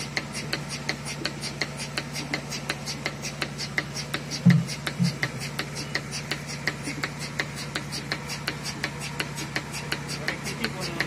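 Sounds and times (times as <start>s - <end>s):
rapid regular clicking: 0.0s - 11.0s
vacuum pump humming: 0.0s - 11.0s.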